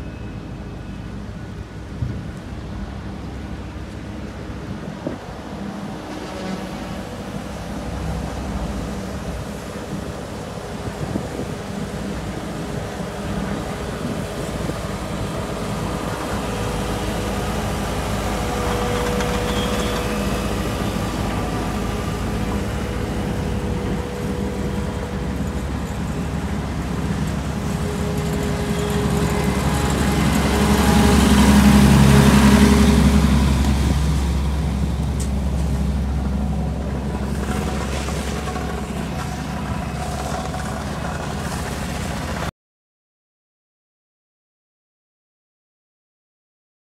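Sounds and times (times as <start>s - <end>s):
road roller diesel engine: 0.0s - 42.5s.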